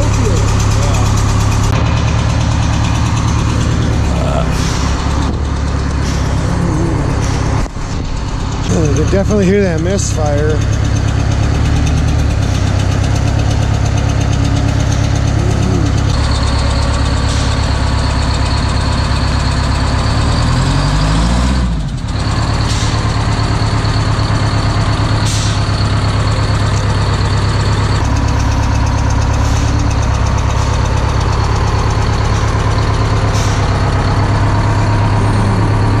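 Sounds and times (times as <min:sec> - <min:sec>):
exhaust puffing: 0:00.0 - 0:18.7, 0:22.2 - 0:36.0
diesel engine idling with misfire: 0:00.0 - 0:36.0.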